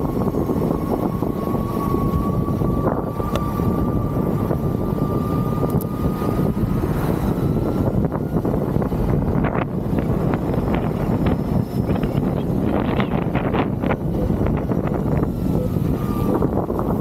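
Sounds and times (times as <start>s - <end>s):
electric motor whine: 0.0s - 17.0s
wind and road noise: 0.0s - 17.0s.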